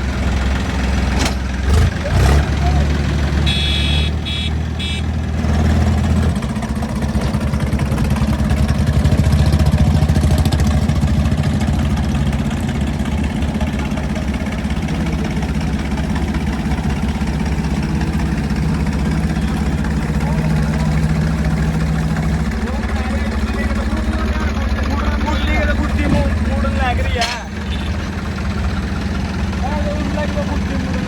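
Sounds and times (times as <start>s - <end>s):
tractor diesel engine running hard: 0.0s - 31.0s.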